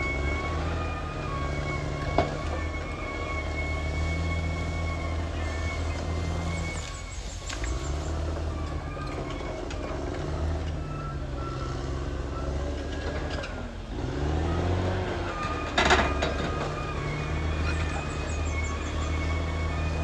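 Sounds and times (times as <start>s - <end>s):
bulldozer diesel engine under load: 0.0s - 20.0s
steel tracks squealing and ticking: 0.0s - 20.0s.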